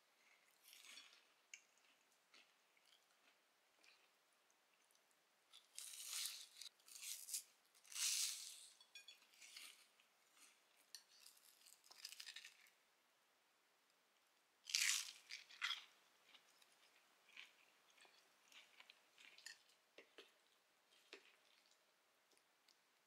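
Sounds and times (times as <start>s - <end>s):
crunchy food being chewed: 0.2s - 12.8s, 14.6s - 22.8s.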